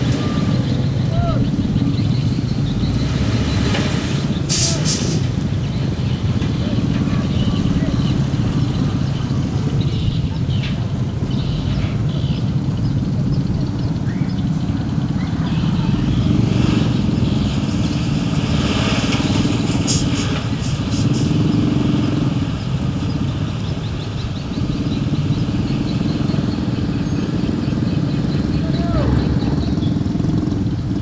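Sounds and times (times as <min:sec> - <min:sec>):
dump truck diesel engine: 0:00.0 - 0:31.0.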